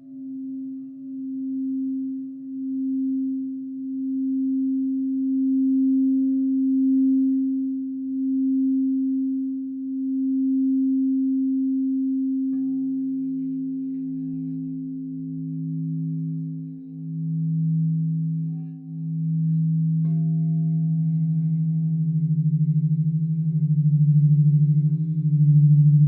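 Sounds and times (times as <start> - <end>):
crystal singing bowl tone: 0.0 - 26.0
lower singing bowl tone: 0.0 - 26.0.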